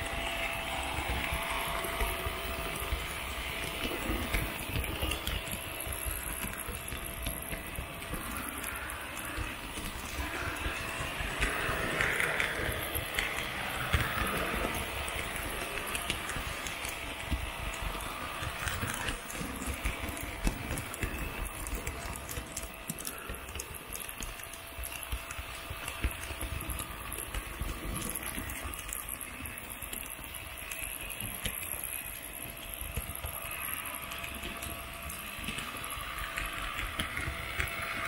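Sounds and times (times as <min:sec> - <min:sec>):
faint motor whine: 0:00.0 - 0:38.0
model train wheels rattling on rails: 0:00.0 - 0:38.0.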